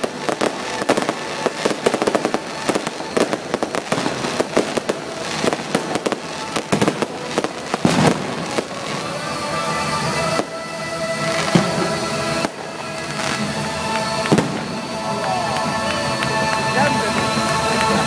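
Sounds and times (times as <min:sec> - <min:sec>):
fireworks cracking and popping: 0:00.0 - 0:18.0
music: 0:00.0 - 0:18.0.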